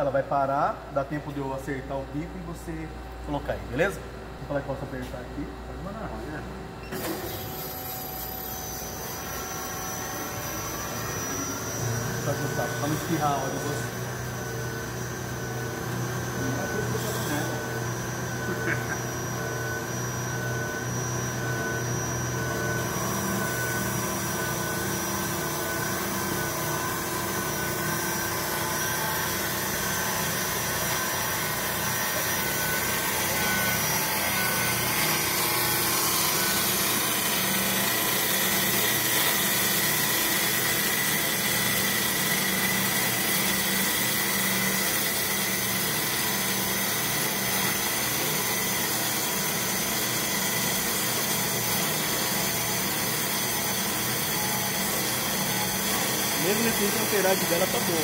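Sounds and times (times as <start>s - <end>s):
machine hum: 0.8s - 58.0s.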